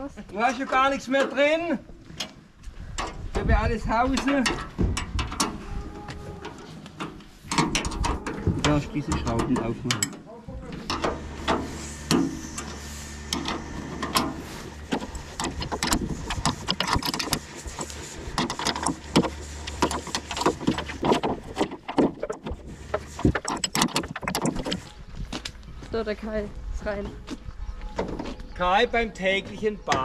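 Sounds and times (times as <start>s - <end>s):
low steady hum: 1.8s - 30.0s.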